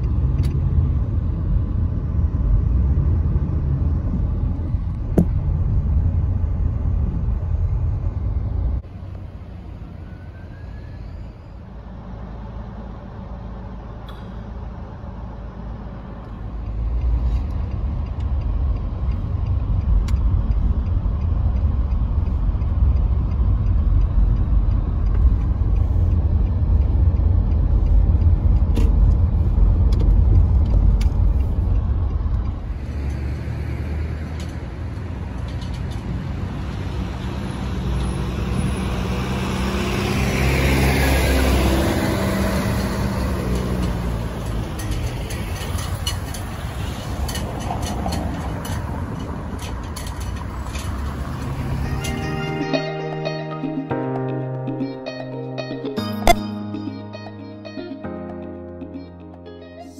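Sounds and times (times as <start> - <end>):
tyre and engine rumble: 0.0 - 59.9.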